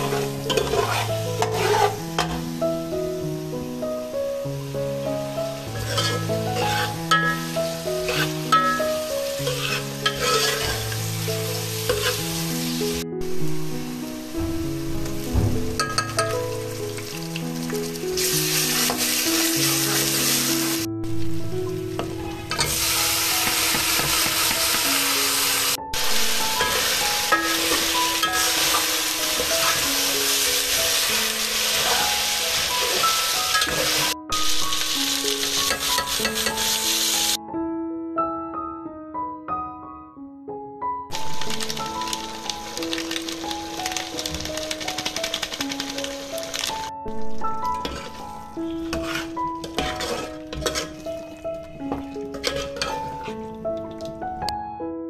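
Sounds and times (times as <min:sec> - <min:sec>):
food sizzling in a pan: 0:00.0 - 0:14.4, 0:15.0 - 0:37.4, 0:41.1 - 0:54.0
gentle melodic background music: 0:00.0 - 0:55.0.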